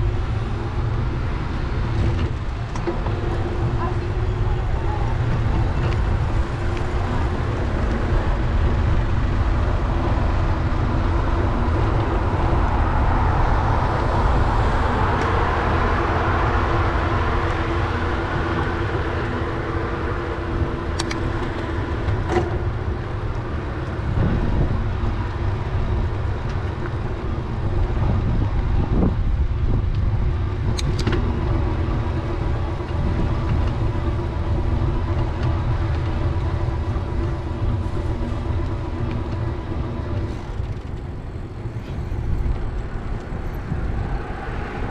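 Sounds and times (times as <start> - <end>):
car traffic: 0.0 - 44.9
wind and road noise: 0.0 - 44.9.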